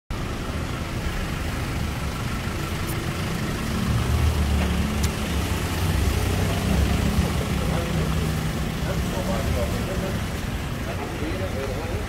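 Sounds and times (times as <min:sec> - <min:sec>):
street traffic noise: 0:00.1 - 0:12.0
vehicle engine idling: 0:00.1 - 0:12.0.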